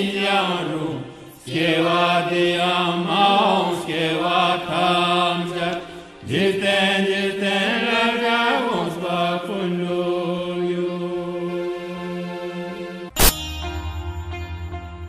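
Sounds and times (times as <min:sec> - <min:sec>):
prayer chanting in long notes: 0:00.0 - 0:13.1.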